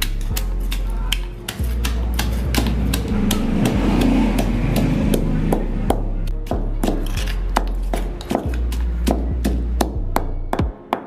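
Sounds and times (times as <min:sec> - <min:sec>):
pestle pounding in stone mortar: 0:00.0 - 0:11.0.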